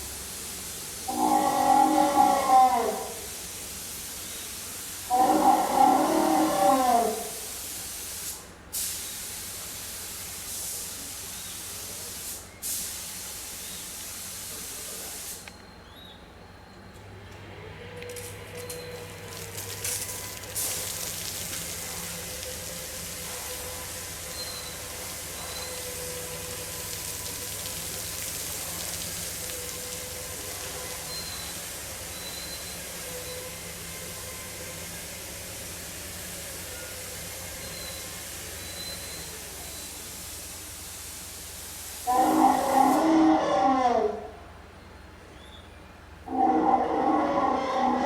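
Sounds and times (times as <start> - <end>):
water spray hissing: 0.0 - 15.4, 19.0 - 43.3.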